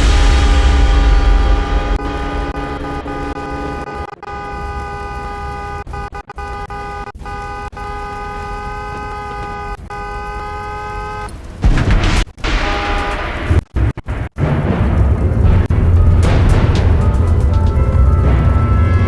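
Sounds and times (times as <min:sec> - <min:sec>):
loud rumble: 0:00.0 - 0:19.0.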